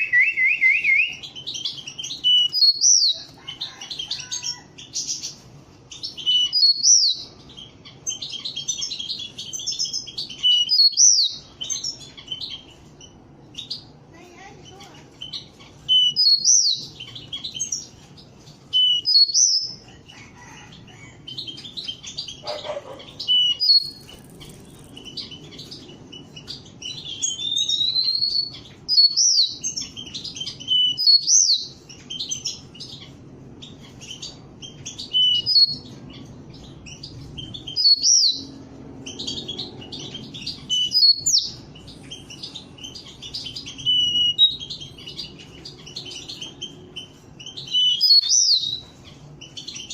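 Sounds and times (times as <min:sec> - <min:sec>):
canaries chirping: 0:00.0 - 0:49.9
low steady background hum: 0:00.0 - 0:49.9.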